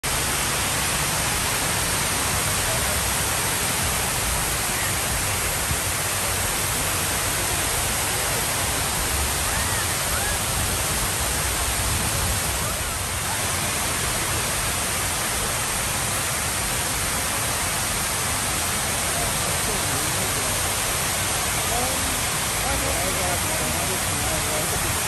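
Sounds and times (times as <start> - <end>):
rush of falling water: 0.0 - 25.0.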